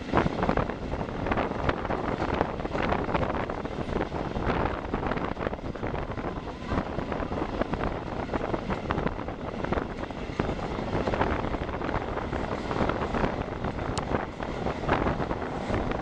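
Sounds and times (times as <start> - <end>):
train carriage running on track: 0.0 - 16.0
wind buffeting microphone: 0.0 - 16.0.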